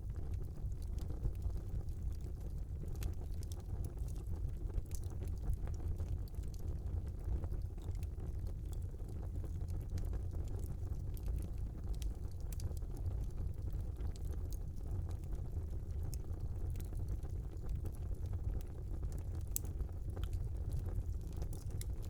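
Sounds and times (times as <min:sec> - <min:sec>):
fire crackling and popping: 0:00.0 - 0:22.0
fire flames rumbling: 0:00.0 - 0:22.0.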